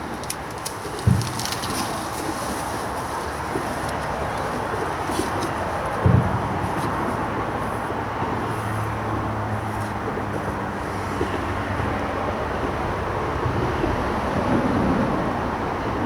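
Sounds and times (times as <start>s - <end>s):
passing vehicle engine hum: 0.0s - 16.0s
road traffic drone: 0.0s - 16.0s.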